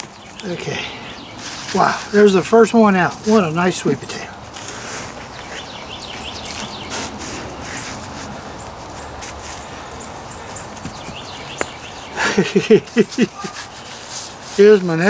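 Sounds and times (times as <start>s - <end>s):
hands digging in soil: 0.0s - 15.0s.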